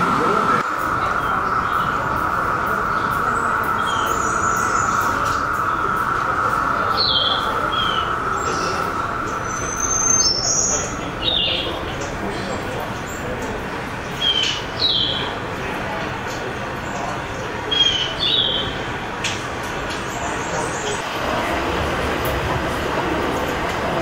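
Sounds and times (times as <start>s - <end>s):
droning hiss: 0.0s - 24.0s.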